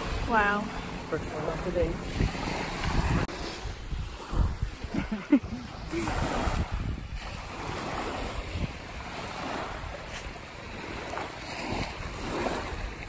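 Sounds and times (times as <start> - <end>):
small waves washing onto shore: 0.0 - 13.0
wind rumbling on microphone: 0.0 - 13.0.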